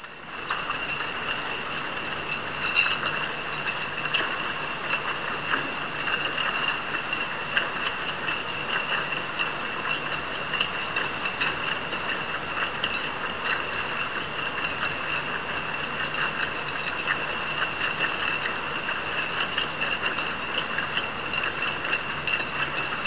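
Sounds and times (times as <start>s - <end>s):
bottling machine whirring: 0.3s - 23.0s
machine clicks and clinks: 0.5s - 23.0s.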